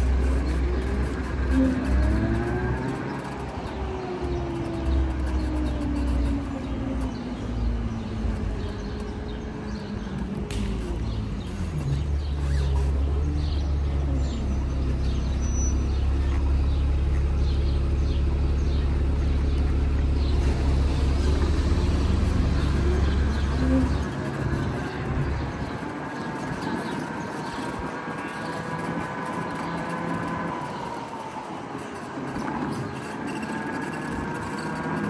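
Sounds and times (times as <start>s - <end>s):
city traffic: 0.0s - 35.0s
motorcycle road rumble: 0.0s - 35.0s
wind: 0.0s - 35.0s.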